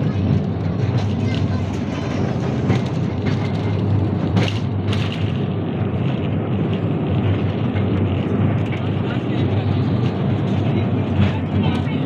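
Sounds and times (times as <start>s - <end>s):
mine train rumbling on track: 0.0s - 12.0s
train clicks and knocks: 0.0s - 12.0s.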